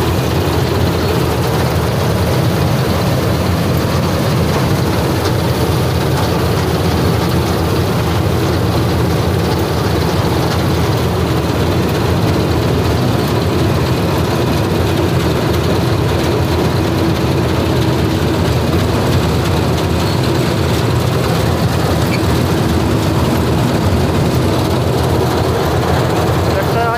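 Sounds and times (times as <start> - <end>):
combine harvester droning: 0.0 - 26.9.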